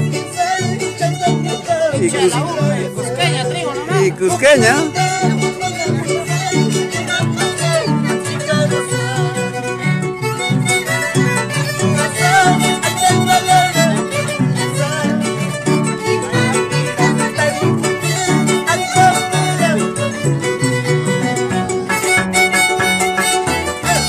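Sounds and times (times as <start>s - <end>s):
harp plucking bass line: 0.0s - 24.0s
violin melody: 0.0s - 24.0s.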